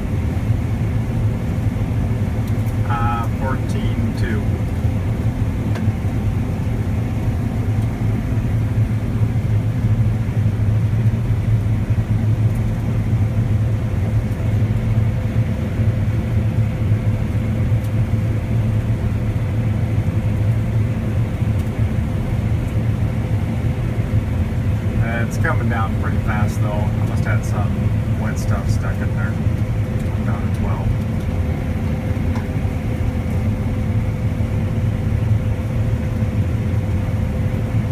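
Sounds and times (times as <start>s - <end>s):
combine harvester rumbling: 0.0s - 37.9s.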